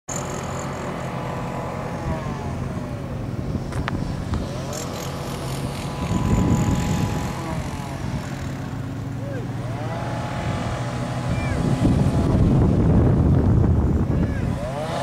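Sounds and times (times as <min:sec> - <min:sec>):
vehicle engine hum: 0:00.1 - 0:15.0.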